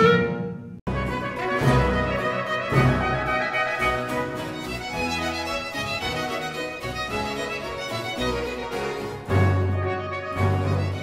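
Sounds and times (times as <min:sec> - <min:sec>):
instrumental theme music: 0:00.0 - 0:11.0.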